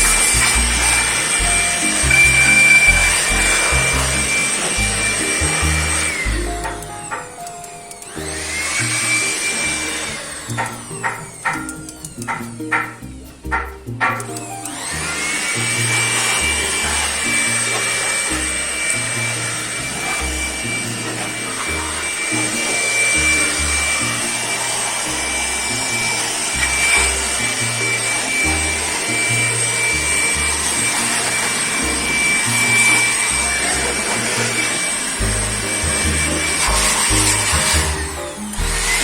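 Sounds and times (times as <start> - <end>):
background music with bass: 0.0 - 7.6, 8.2 - 39.0
power tool whining: 0.0 - 39.0.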